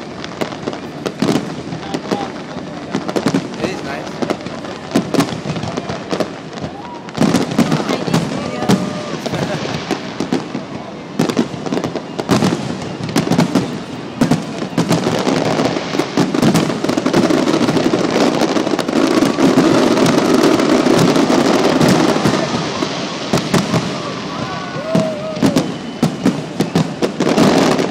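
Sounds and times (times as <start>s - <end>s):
crowd noise: 0.0s - 27.9s
fireworks bursts and bangs: 0.0s - 27.9s.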